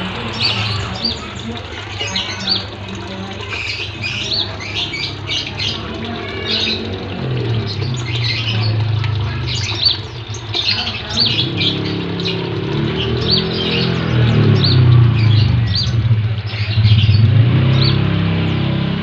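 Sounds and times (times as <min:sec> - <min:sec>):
songbirds chirping and squawking: 0:00.0 - 0:19.0.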